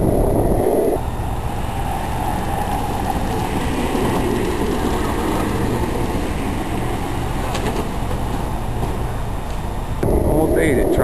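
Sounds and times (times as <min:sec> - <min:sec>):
longboard wheels rolling on pavement: 0:00.0 - 0:10.5.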